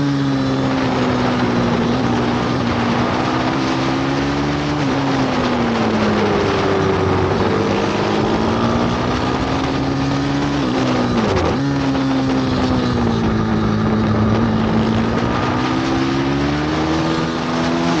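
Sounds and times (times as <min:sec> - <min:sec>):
motorbike engine revving: 0:00.0 - 0:18.0
wind noise on microphone: 0:00.0 - 0:18.0.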